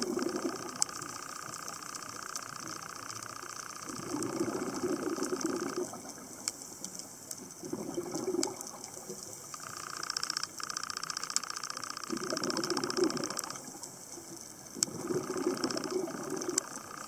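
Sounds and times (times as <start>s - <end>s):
underwater bubbles gurgling: 0.0s - 10.6s, 11.2s - 17.0s
fine crackle of clicks: 0.0s - 17.0s.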